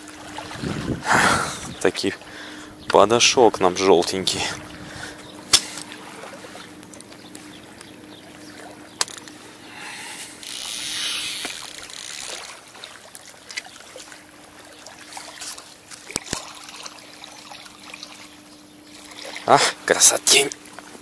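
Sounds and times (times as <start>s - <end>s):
faint steady hum: 0.0s - 21.0s
water splashing: 0.0s - 21.0s.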